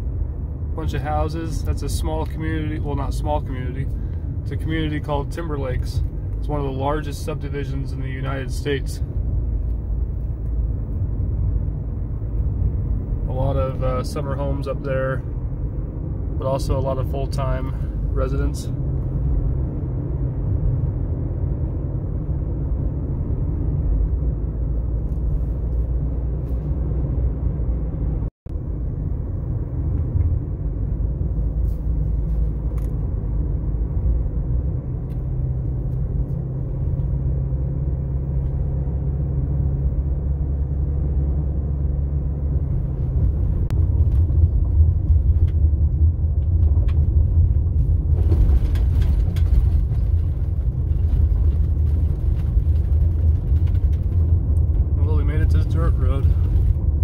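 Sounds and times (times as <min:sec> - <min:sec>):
car engine and tyre rumble: 0:00.0 - 0:57.0
tyres on gravel road: 0:00.0 - 0:57.0.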